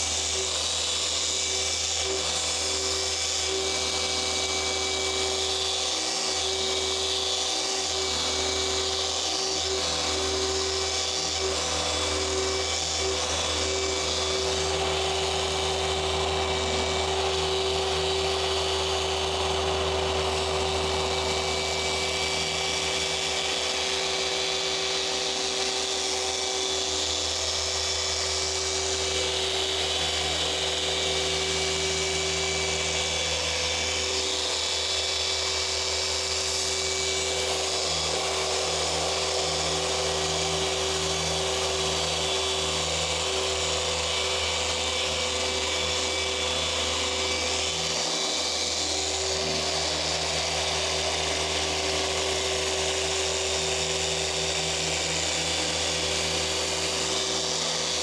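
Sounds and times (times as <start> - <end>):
machine polisher motor whine: 0.0 - 58.0.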